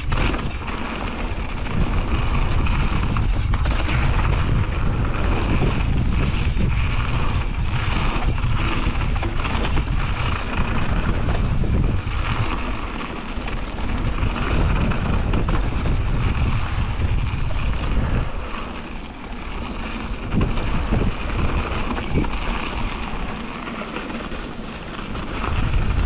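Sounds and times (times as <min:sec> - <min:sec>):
bike rattles and ticks: 0:00.0 - 0:26.0
tyres rolling on dirt trail: 0:00.0 - 0:26.0
wind buffeting microphone: 0:00.0 - 0:26.0.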